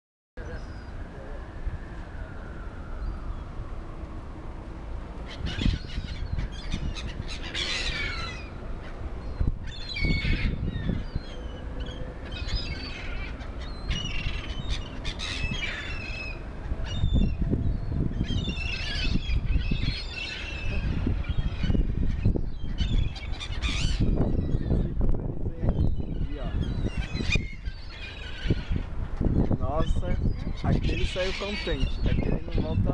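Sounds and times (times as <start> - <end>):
birds squawking and calling: 5.2 - 32.9.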